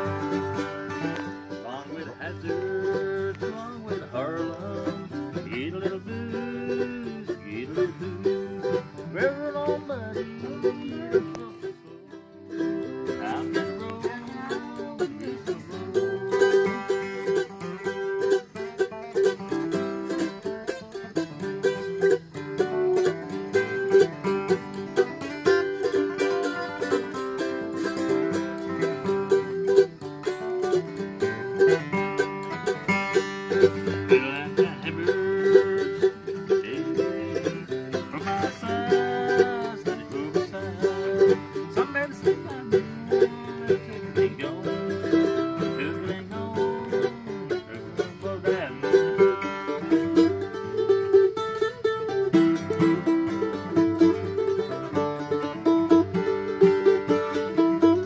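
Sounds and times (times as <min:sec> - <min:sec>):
fast picked bluegrass string tune: 0:00.0 - 0:58.0.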